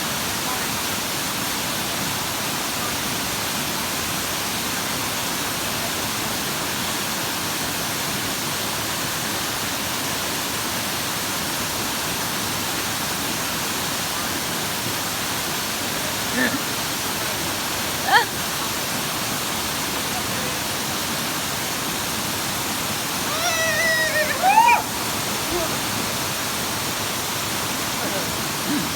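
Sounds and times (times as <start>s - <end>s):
waterfall: 0.0s - 28.9s.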